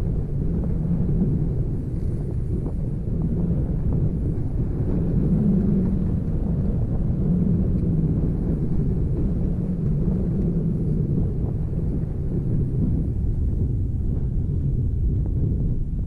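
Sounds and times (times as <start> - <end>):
low rumble of volcanic vent: 0.0 - 16.0
wind buffeting microphone: 0.0 - 16.0.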